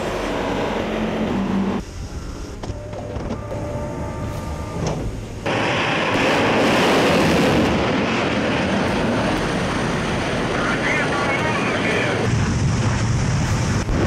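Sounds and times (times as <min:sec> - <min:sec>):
jet engine rushing: 0:00.0 - 0:14.0
low rumble: 0:00.0 - 0:14.0.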